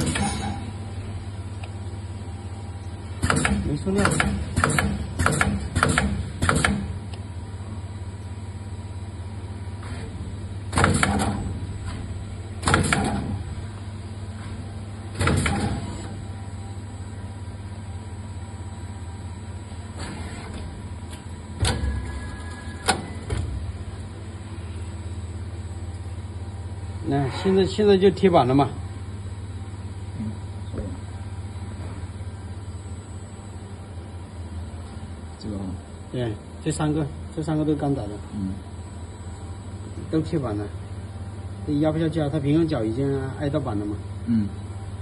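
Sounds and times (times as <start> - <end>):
machine humming: 0.0 - 45.0.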